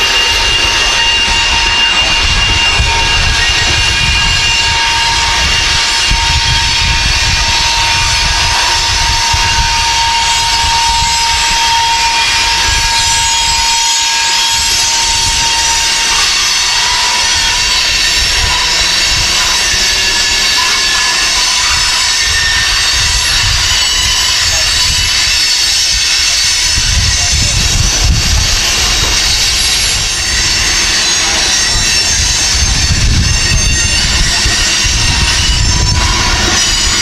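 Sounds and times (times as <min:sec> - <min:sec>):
high wheel squeal: 0:00.0 - 0:37.0
train cars rumbling on rails: 0:00.0 - 0:37.0.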